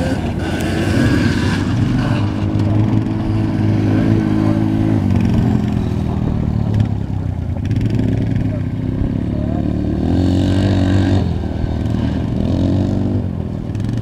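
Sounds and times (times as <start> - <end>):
atv engine droning: 0.0 - 14.0.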